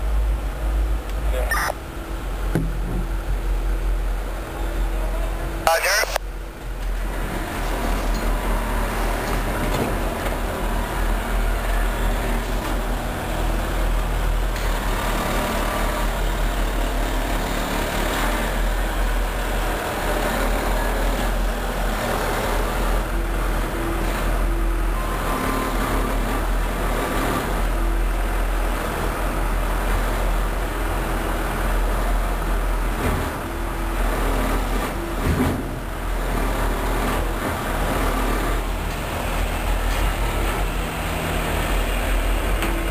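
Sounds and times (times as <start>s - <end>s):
locomotive engine drone: 0.0s - 42.9s.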